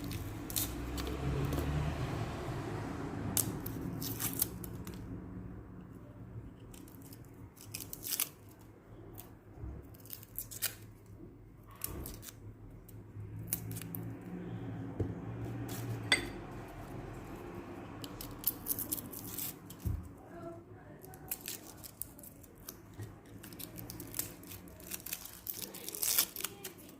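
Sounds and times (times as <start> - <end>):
garlic skins crackling: 0.0 - 5.3, 6.4 - 14.4, 15.3 - 26.9.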